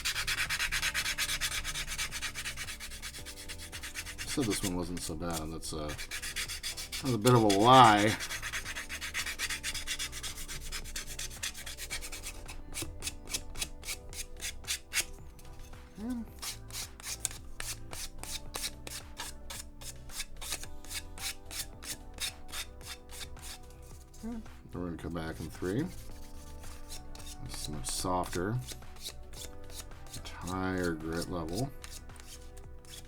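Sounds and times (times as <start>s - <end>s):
sanding pad scraping plastic: 0.0s - 15.6s, 16.4s - 23.7s, 25.3s - 33.0s.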